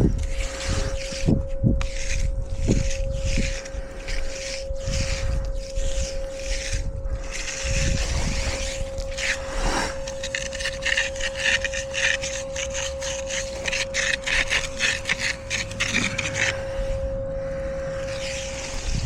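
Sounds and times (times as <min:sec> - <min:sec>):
hand edger scraping wet concrete: 0:00.0 - 0:17.0, 0:17.9 - 0:19.0.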